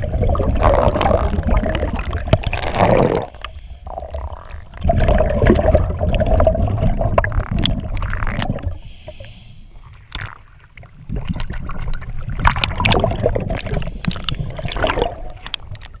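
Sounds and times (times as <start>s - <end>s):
water bubbling and gurgling: 0.0s - 16.0s.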